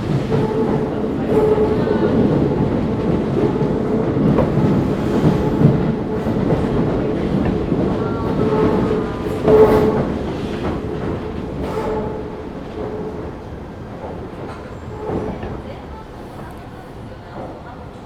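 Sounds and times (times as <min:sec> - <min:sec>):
wheels clacking over rail joints: 0:00.0 - 0:16.7
electric train rumble and hum: 0:00.0 - 0:18.0.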